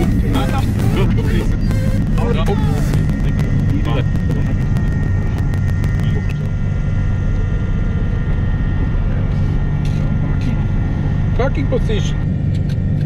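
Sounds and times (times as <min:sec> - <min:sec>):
aircraft piston engines droning: 0:00.0 - 0:13.0.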